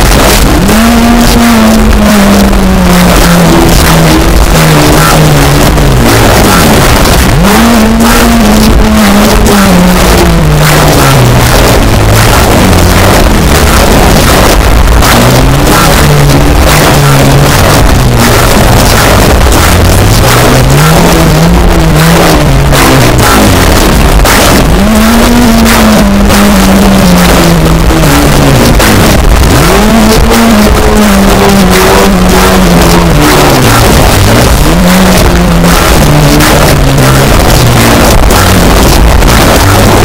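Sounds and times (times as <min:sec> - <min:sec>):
distorted extreme music: 0:00.0 - 0:40.0.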